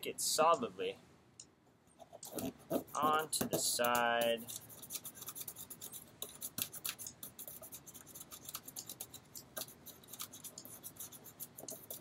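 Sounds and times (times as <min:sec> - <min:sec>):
fingers rubbing tape on balloon: 0:02.0 - 0:12.0.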